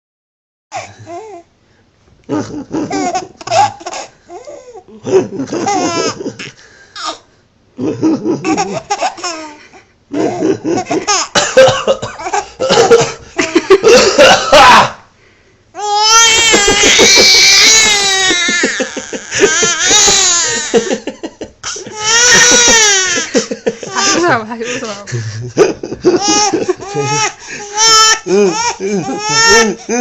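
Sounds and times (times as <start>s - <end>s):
baby laughing: 2.3s - 7.2s, 8.1s - 14.0s, 15.8s - 24.9s, 25.6s - 30.0s.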